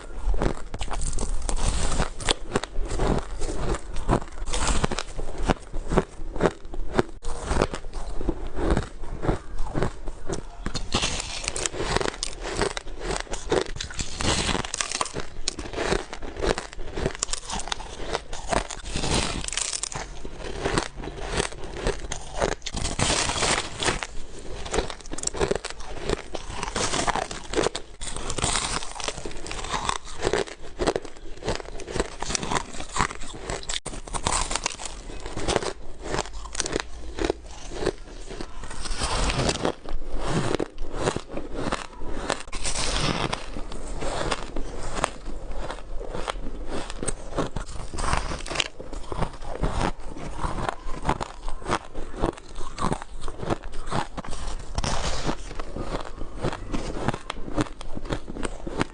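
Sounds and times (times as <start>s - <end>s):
ice being chewed: 0.0s - 58.9s.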